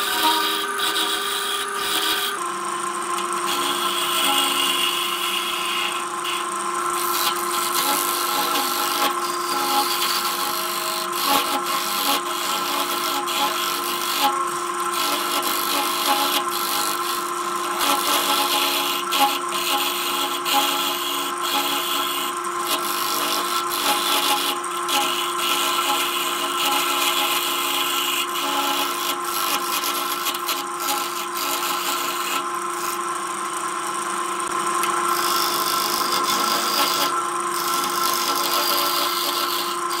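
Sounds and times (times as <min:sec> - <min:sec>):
turning tool scraping wood: 0:00.0 - 0:02.5, 0:03.1 - 0:33.1, 0:34.4 - 0:40.0
wood lathe motor running: 0:00.0 - 0:40.0.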